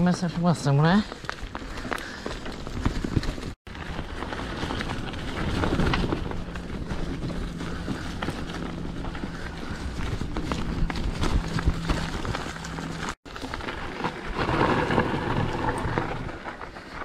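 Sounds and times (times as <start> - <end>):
bike tyres rolling on dirt: 0.0 - 17.0.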